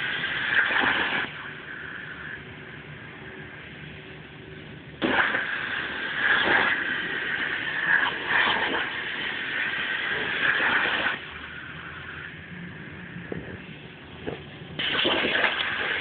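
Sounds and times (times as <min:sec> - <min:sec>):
machine running hum: 0:00.0 - 0:15.0.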